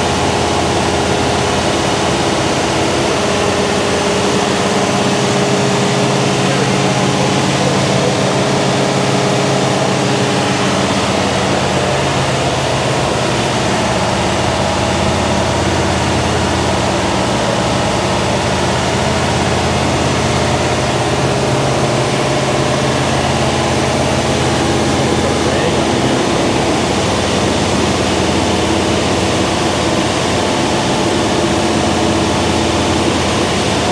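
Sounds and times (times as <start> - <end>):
vee eight engine running: 0.0 - 33.9.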